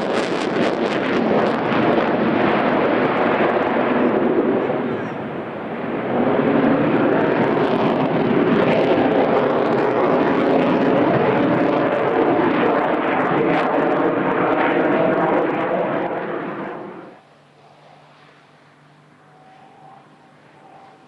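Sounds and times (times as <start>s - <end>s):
jet engine roar overhead: 0.0s - 21.0s.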